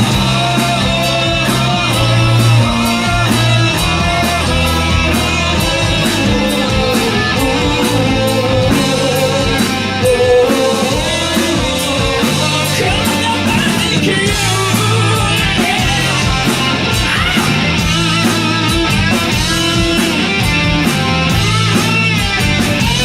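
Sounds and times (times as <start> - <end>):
bass guitar: 0.0 - 23.0
electric guitar: 0.0 - 23.0
steady drum beat: 0.0 - 23.0.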